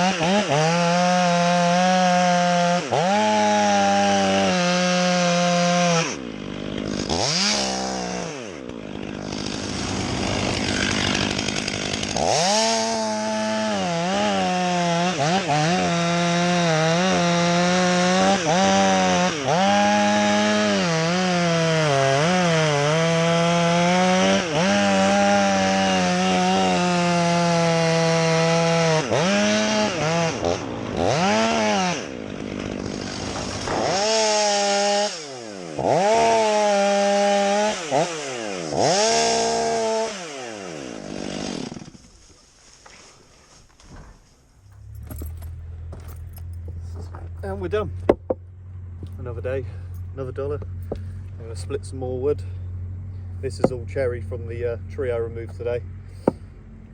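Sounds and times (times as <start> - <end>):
chainsaw cutting wood: 0.0 - 43.1, 43.8 - 56.9.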